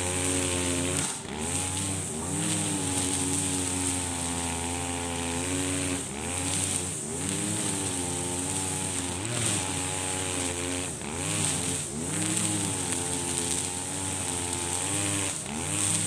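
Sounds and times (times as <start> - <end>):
brushcutter engine at full throttle: 0.0 - 16.0.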